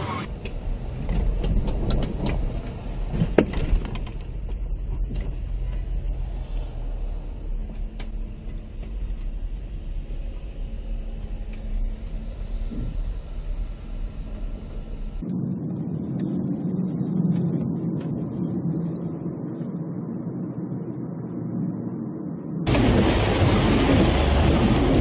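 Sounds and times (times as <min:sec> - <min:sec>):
vehicle low rumble: 0:00.0 - 0:25.0.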